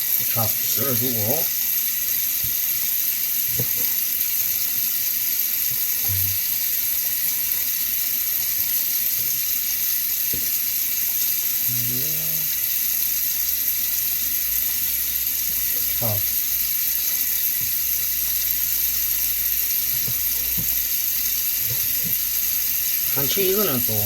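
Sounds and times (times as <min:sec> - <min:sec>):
water running from kitchen tap: 0:00.0 - 0:24.0.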